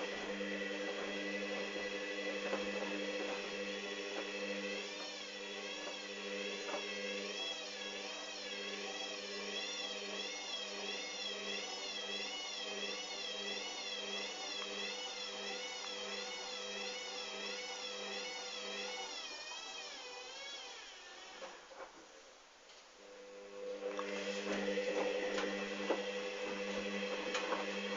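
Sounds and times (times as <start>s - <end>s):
washing machine motor whining: 0.0s - 22.0s, 23.0s - 27.9s.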